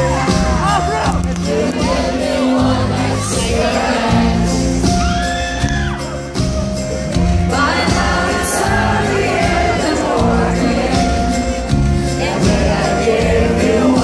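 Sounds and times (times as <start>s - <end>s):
live pop-rock band playing: 0.0s - 14.0s.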